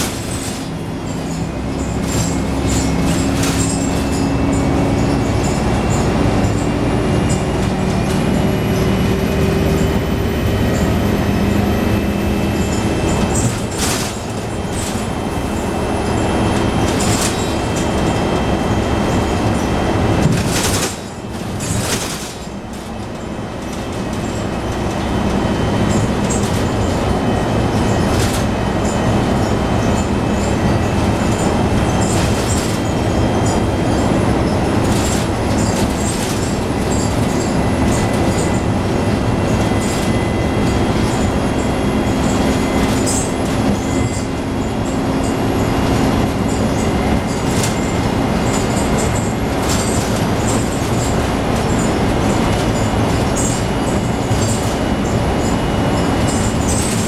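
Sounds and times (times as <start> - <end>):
rattles and knocks: 0.0 - 9.1, 9.8 - 57.0
bus engine drone: 0.0 - 57.0.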